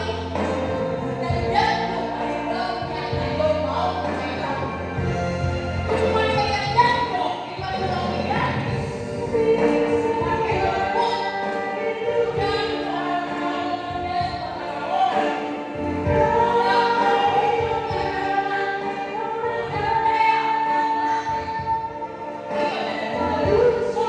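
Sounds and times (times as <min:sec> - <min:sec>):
choir singing gospel song: 0:00.0 - 0:24.0
low accompaniment beat: 0:00.0 - 0:24.0.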